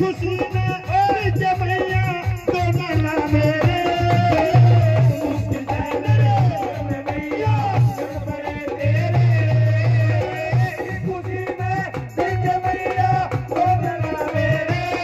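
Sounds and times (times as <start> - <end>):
deep drum beat: 0.0 - 15.0
man singing: 0.0 - 15.0.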